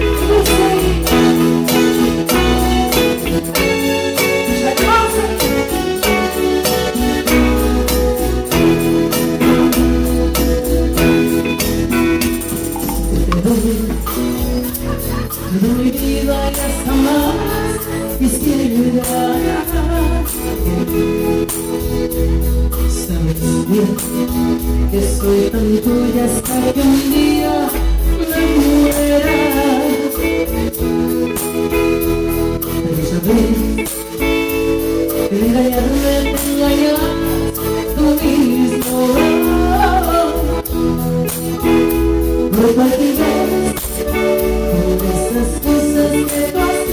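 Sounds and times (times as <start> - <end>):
person singing: 0.0 - 21.7, 22.9 - 30.8, 32.8 - 41.6, 42.4 - 46.9
live dance band playing: 0.0 - 46.9
shaken percussion: 0.0 - 46.9.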